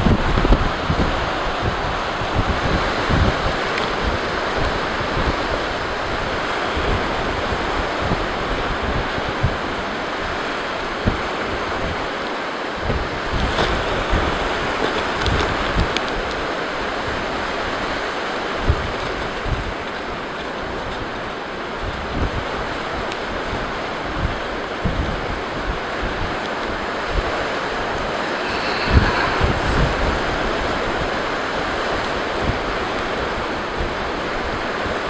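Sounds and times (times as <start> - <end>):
blizzard wind blowing hard: 0.0 - 35.0
wind buffeting microphone: 0.0 - 35.0.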